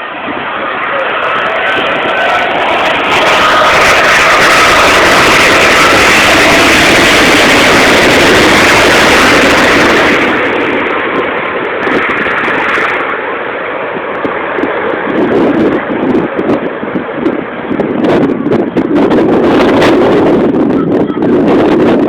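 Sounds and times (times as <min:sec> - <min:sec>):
jet engines rushing with whine: 0:00.0 - 0:22.0.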